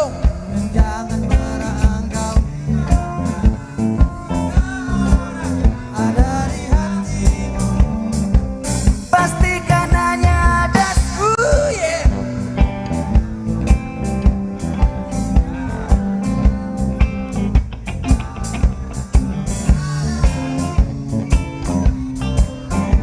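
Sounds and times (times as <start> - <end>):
live band playing pop-rock: 0.0 - 23.0.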